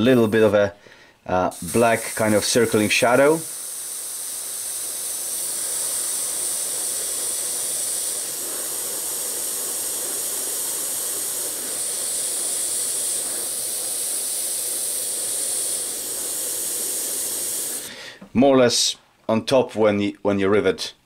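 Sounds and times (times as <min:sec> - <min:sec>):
airbrush hissing: 0:00.0 - 0:00.6, 0:01.5 - 0:18.0.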